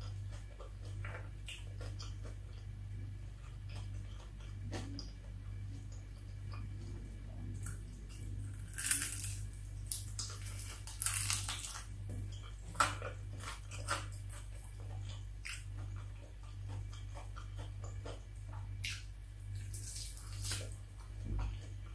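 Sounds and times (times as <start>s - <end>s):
fried chicken crunching: 0.0s - 21.9s
steady low hum: 0.0s - 21.9s.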